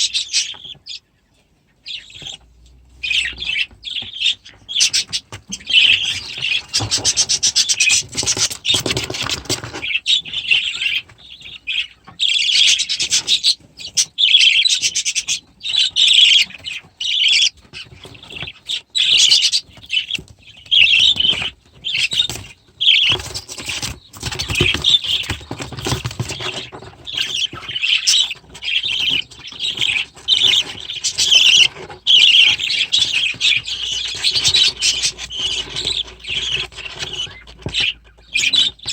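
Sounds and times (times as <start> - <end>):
birds chattering and squawking: 0.0 - 38.9.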